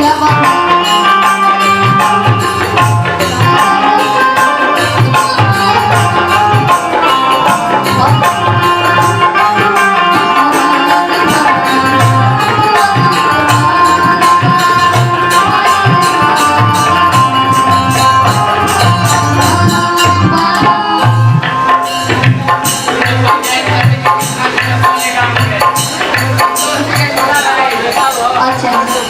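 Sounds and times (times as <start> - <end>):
hand drums beating: 0.0 - 29.0
live band playing: 0.0 - 29.0.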